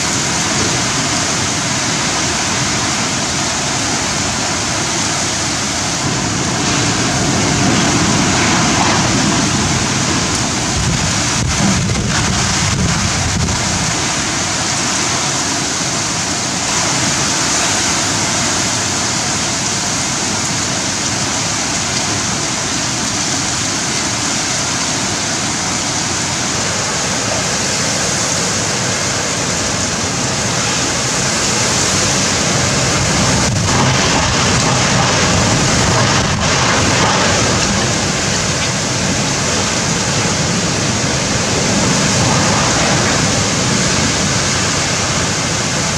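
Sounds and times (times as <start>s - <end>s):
heavy rain pouring: 0.0s - 45.9s
strong wind gusts: 0.0s - 45.9s.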